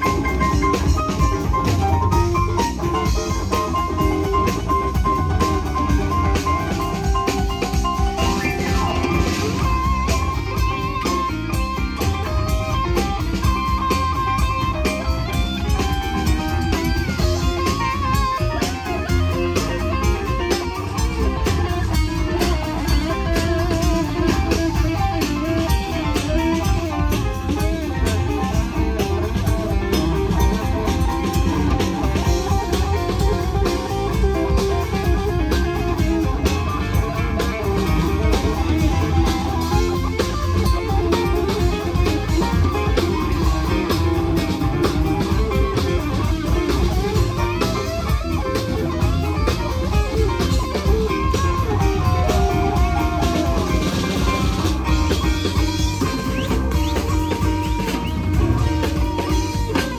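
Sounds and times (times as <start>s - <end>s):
guitar: 0.0s - 59.9s
live band playing: 0.0s - 59.9s.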